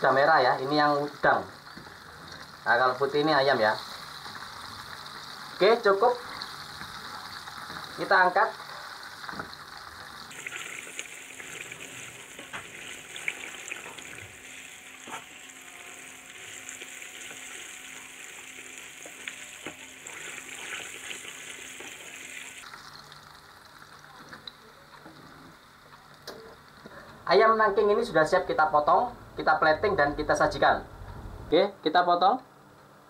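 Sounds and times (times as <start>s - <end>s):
food sizzling in hot oil: 0.0s - 27.9s.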